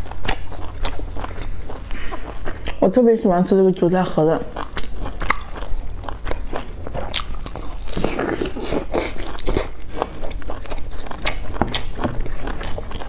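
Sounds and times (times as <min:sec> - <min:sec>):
crisp fried food crunching: 0:00.0 - 0:13.0.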